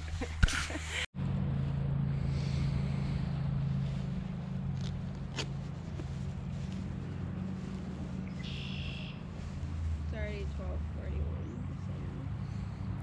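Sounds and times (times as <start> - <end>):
low mechanical hum: 1.2 - 13.0.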